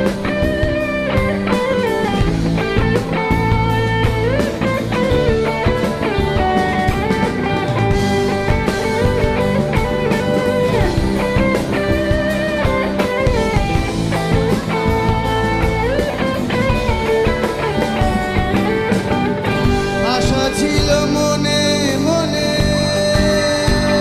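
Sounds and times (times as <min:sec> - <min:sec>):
bass guitar: 0:00.0 - 0:24.0
electric guitar sliding notes: 0:00.0 - 0:24.0
steady drum beat: 0:00.0 - 0:24.0.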